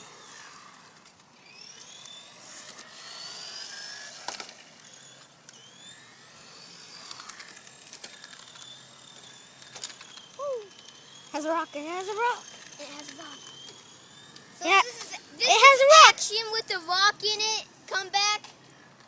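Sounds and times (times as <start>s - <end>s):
toy car motor whining: 0.0s - 19.0s.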